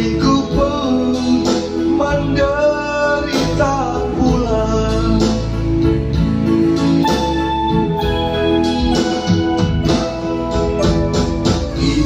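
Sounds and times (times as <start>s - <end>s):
electronic keyboard chords and bass: 0.0s - 12.0s.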